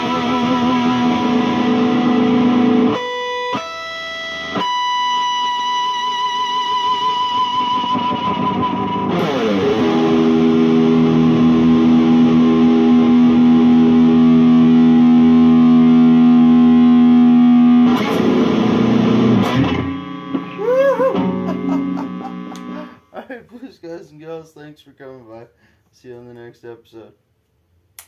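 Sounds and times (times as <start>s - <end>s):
distorted electric guitar with vibrato: 0.0s - 23.2s.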